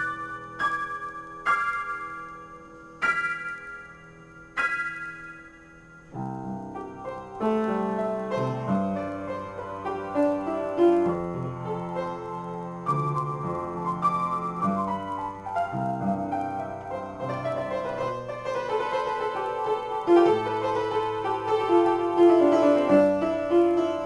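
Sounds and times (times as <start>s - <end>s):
solo piano improvisation: 0.0s - 24.0s.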